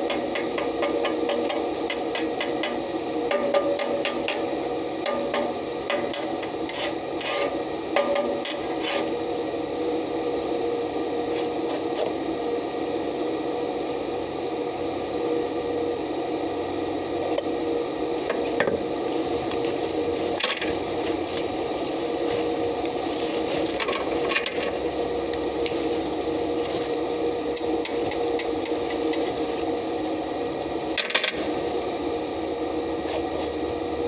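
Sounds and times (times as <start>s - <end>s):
steady machine hum: 0.0s - 34.0s.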